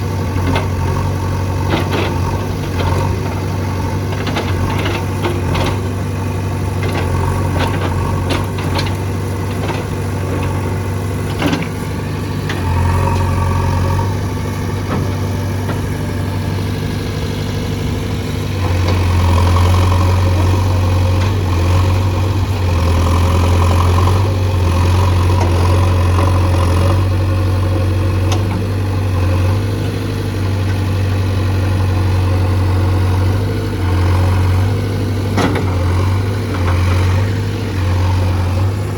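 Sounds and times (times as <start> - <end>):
backhoe diesel engine running: 0.0 - 38.9.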